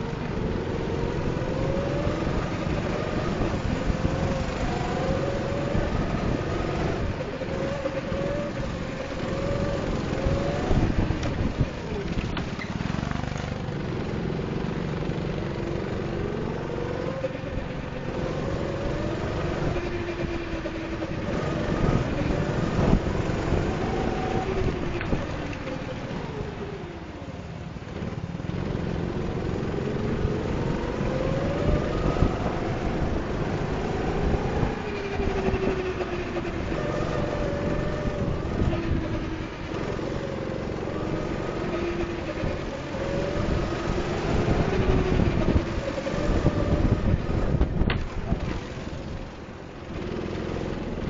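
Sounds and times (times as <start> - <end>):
go-kart engine revving: 0.0 - 51.0.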